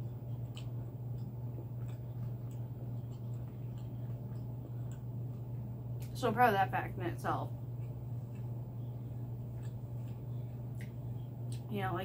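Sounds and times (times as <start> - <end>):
person chewing food: 0.0 - 6.2, 7.5 - 11.7
steady low hum: 0.0 - 12.0.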